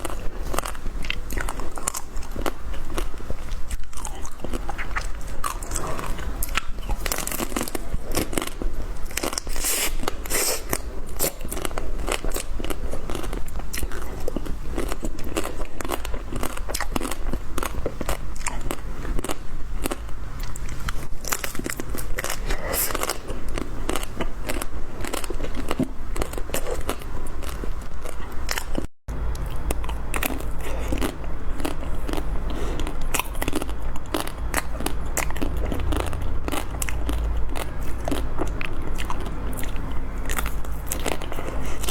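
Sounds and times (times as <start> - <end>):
chewing ice cream bar: 0.0 - 41.9.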